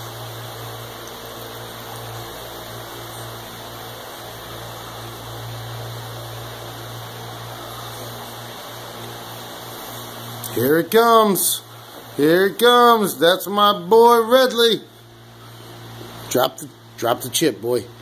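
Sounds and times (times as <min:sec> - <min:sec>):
low hum: 0:00.0 - 0:17.0
steady hiss: 0:00.0 - 0:18.0.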